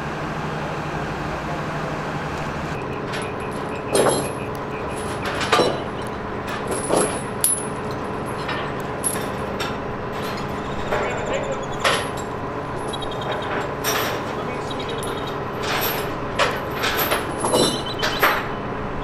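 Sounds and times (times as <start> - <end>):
engine hum: 0.0 - 19.0
metal chains clanking: 3.0 - 18.5.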